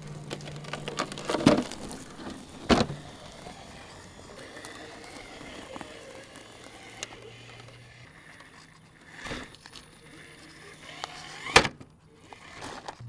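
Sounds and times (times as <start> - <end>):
electric motor humming: 0.0 - 13.0
tyres crunching over rocks: 0.0 - 13.0.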